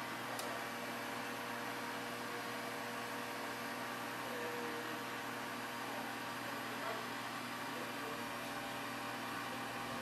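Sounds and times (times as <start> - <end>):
ventilation system whirring: 0.0 - 10.0.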